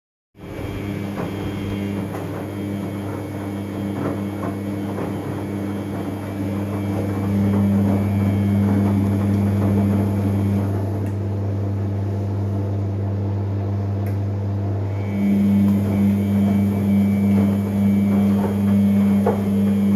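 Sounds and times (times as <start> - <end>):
washing machine humming: 0.4 - 19.9.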